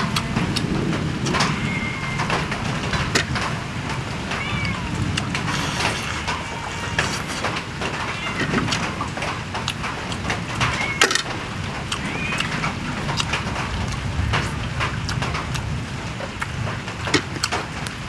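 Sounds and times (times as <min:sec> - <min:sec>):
chewing: 0:00.0 - 0:01.6, 0:04.6 - 0:18.0
sharp crackles and clicks: 0:00.0 - 0:18.0
steady low rumble: 0:00.0 - 0:18.0.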